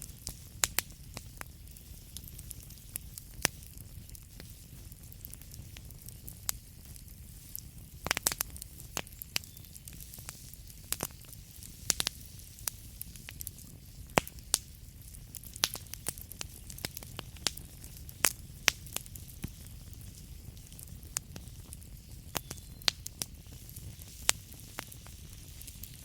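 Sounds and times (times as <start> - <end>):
burning wood crackling and popping: 0.0 - 26.0
low rumble of fire: 0.0 - 26.0.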